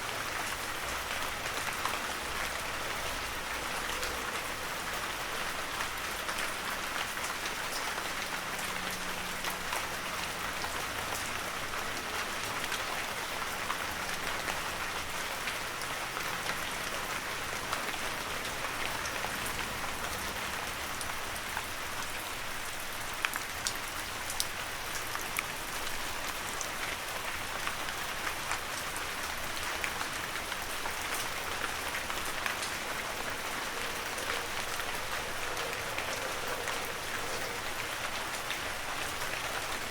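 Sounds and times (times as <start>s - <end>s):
heavy rain falling: 0.0s - 39.9s
sharp clicks of raindrops: 0.1s - 39.9s.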